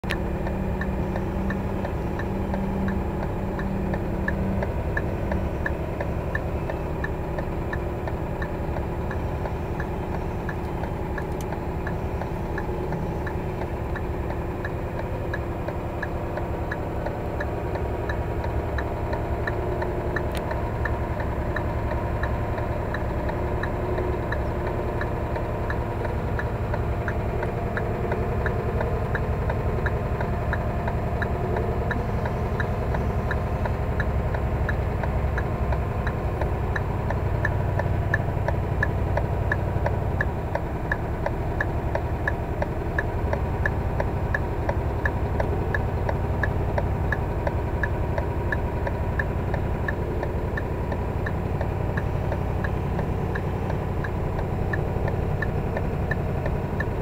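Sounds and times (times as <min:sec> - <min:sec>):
diesel truck engine running: 0:00.0 - 0:57.0
light regular ticking: 0:00.1 - 0:57.0.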